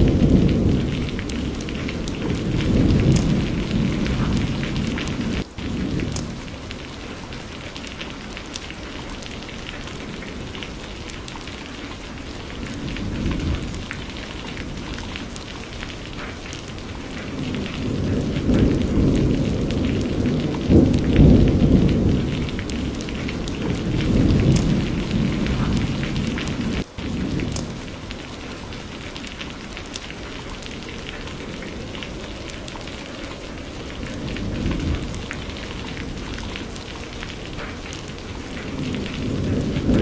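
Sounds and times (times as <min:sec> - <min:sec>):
rolling thunder rumble: 0:00.0 - 0:08.1, 0:08.7 - 0:40.0
rain pattering: 0:00.0 - 0:40.0.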